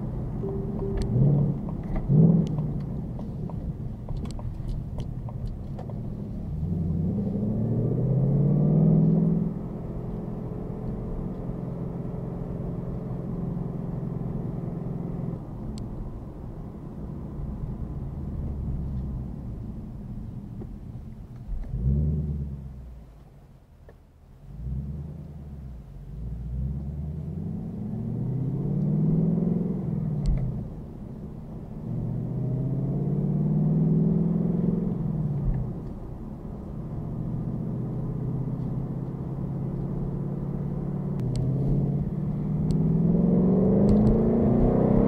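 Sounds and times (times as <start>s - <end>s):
car engine revving and accelerating: 0.0s - 23.0s, 24.4s - 45.0s.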